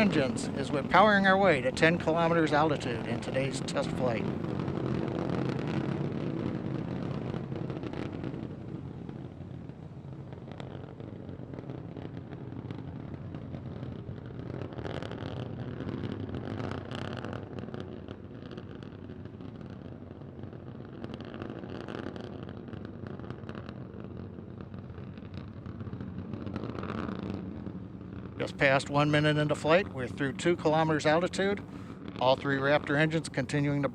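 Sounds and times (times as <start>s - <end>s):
rocket engines rumbling and crackling: 0.0s - 33.9s.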